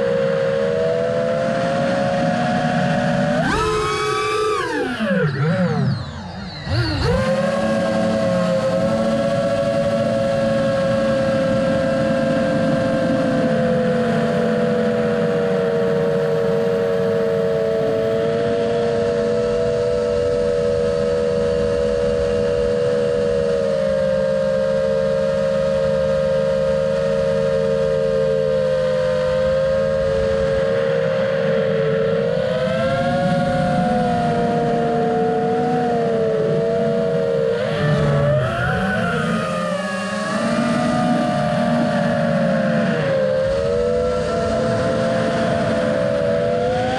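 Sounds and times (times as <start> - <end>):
drone motors whining: 0.0 - 46.9.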